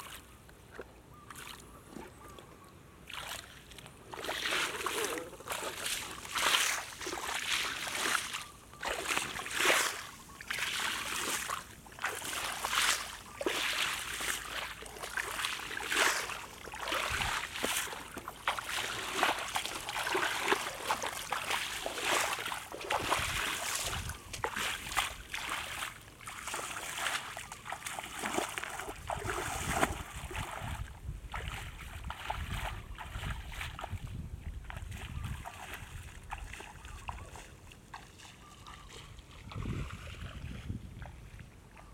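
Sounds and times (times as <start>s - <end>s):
bare feet splashing through water: 0.0s - 41.9s.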